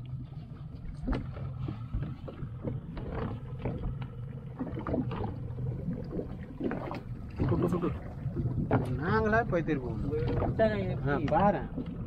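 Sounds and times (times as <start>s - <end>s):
boat engine humming: 0.0s - 12.0s
water splashing against hull: 0.0s - 12.0s.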